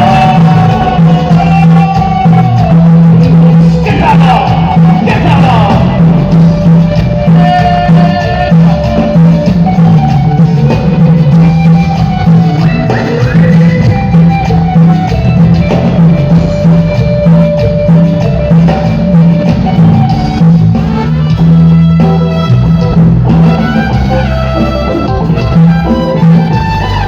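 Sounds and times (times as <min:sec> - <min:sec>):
drum kit and percussion: 0:00.0 - 0:27.0
pulsing bass line: 0:00.0 - 0:27.0.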